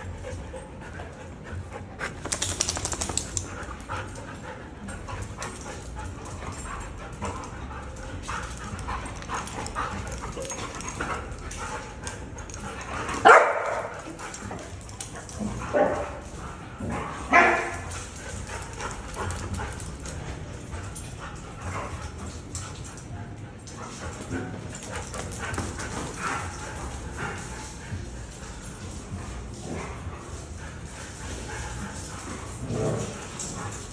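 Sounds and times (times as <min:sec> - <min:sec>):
dogs play-fighting: 0:00.0 - 0:33.9.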